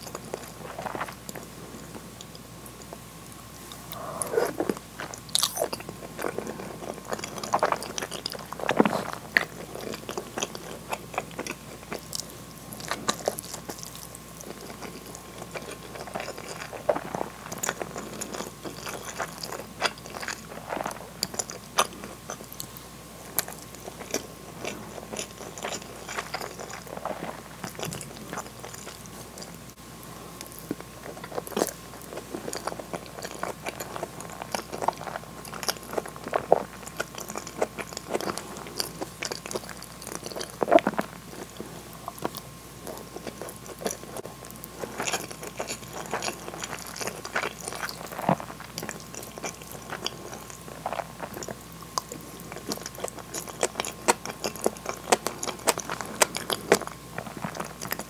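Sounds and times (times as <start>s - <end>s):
person chewing food: 0.0s - 29.7s, 30.3s - 58.0s.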